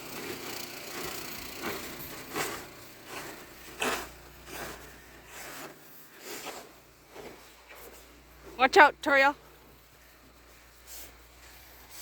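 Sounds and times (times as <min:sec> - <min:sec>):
snow shovel scraping snow: 0:00.0 - 0:12.0.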